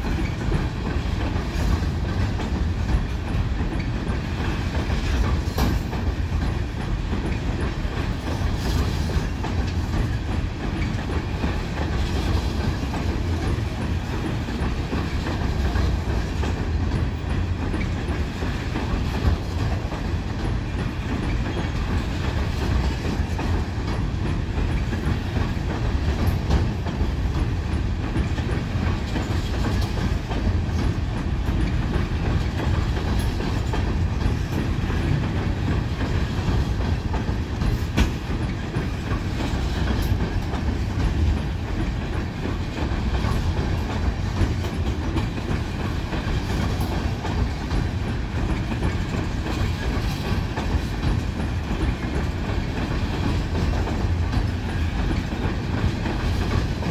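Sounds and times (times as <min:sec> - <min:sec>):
train low rumble on bridge: 0:00.0 - 0:56.9
wheels clacking over rail joints: 0:00.0 - 0:56.9.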